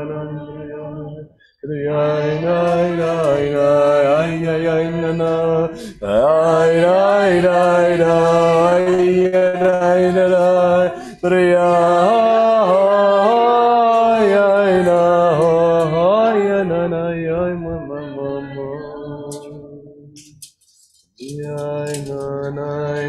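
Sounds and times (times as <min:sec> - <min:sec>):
voices chanting a slow melody: 0:00.0 - 0:20.5, 0:21.2 - 0:23.0.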